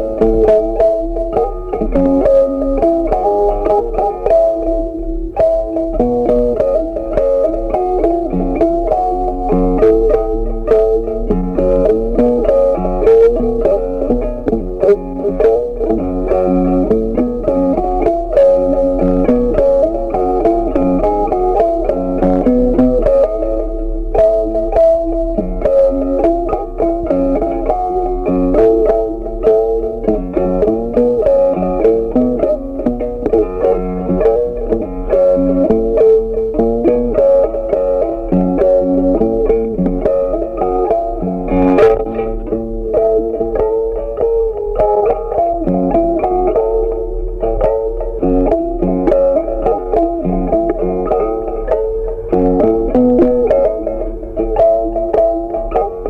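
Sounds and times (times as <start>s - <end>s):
plucked guitar tune: 0.0s - 56.0s.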